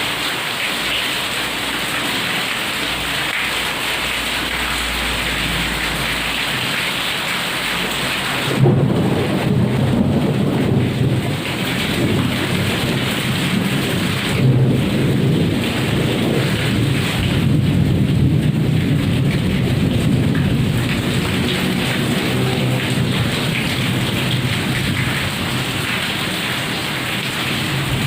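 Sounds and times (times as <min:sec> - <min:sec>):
heavy rain pouring: 0:00.0 - 0:28.0
thunder rumbling: 0:04.6 - 0:28.0.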